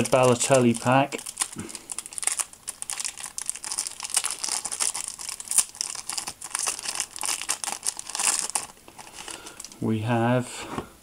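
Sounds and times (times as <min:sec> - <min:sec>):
foil wrapper tearing and crinkling: 0:00.0 - 0:09.8.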